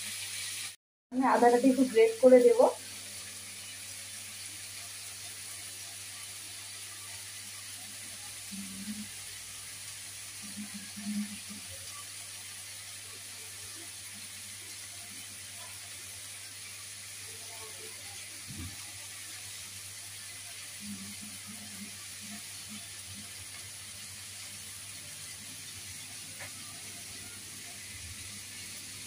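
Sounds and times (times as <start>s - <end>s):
vegetables sizzling in a wok: 0.0s - 29.0s.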